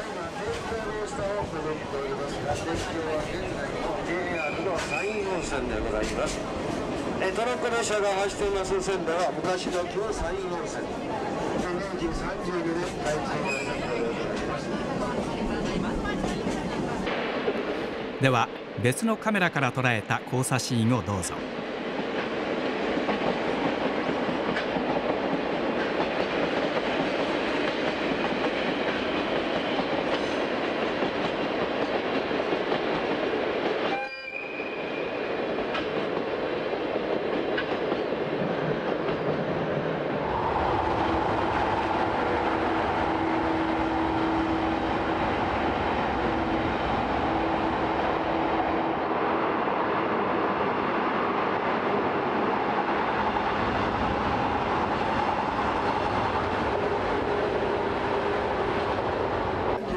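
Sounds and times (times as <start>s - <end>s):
train rumbling on track: 0.0s - 18.7s, 21.4s - 59.9s.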